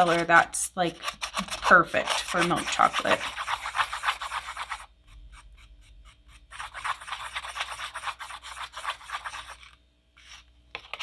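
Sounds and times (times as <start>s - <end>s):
plastic utensil scraping paint: 0.0s - 11.0s.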